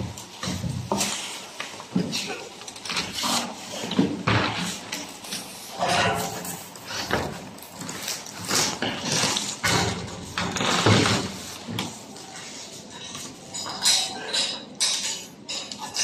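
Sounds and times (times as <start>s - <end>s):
bubble wrap rustling and crinkling: 0.0s - 13.4s.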